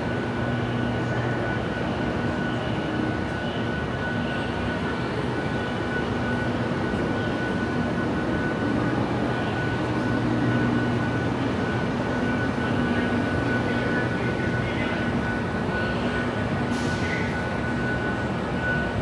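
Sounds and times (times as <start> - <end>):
metro platform rumble: 0.0 - 19.0.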